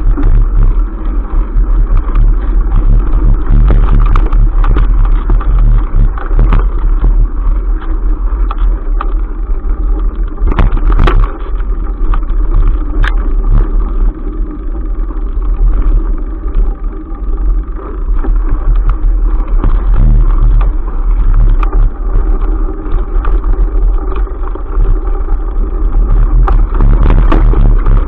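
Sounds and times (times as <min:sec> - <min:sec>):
bike rolling on dirt trail: 0:00.0 - 0:28.0.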